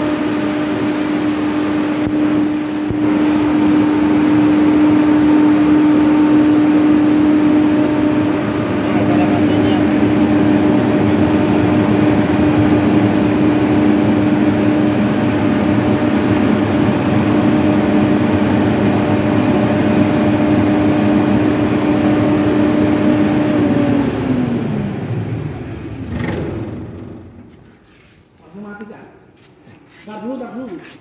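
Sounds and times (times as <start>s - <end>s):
diesel generator humming: 0.0s - 28.1s.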